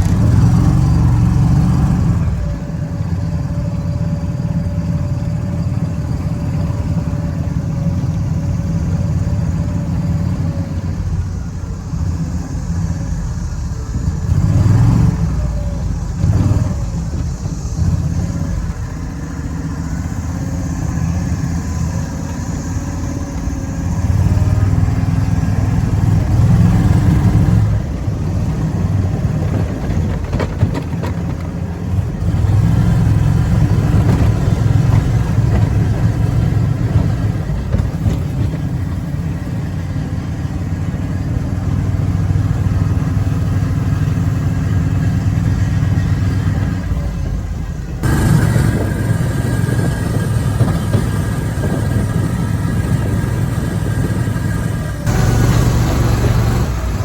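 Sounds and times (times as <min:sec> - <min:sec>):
utility cart engine running: 0:00.0 - 0:57.0.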